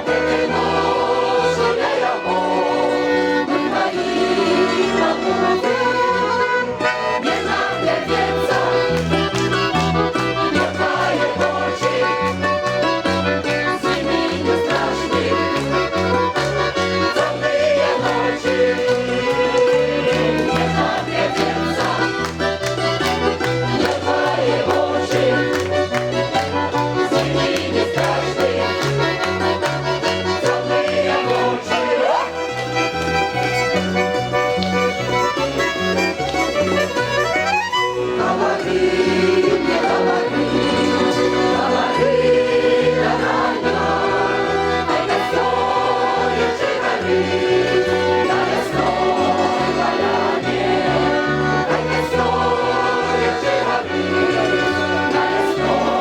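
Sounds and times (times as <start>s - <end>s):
mixed choir singing: 0.0s - 33.9s, 34.9s - 56.0s
instrumental accompaniment: 0.0s - 56.0s.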